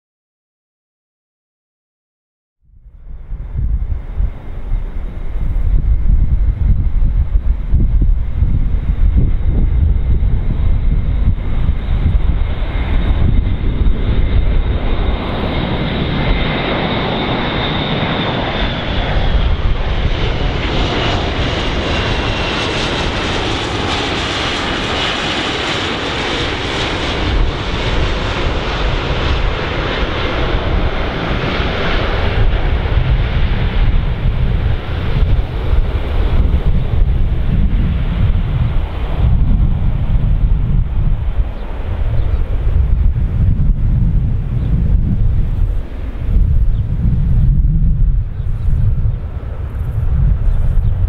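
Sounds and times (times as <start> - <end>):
turboprop aircraft droning: 2.6 - 51.0
wind rumble on microphone: 2.6 - 51.0.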